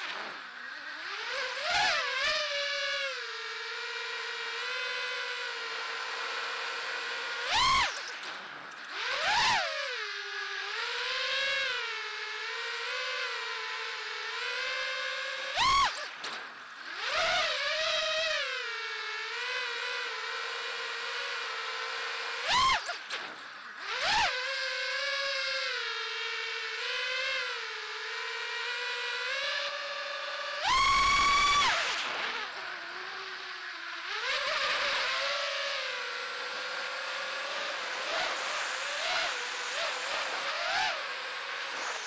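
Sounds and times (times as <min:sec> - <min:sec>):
quadcopter motors whining: 0:00.0 - 0:42.0.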